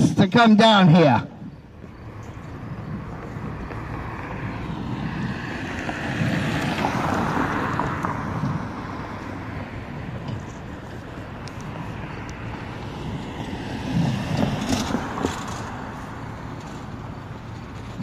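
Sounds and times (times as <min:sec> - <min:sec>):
vehicle passing: 0:01.0 - 0:18.0.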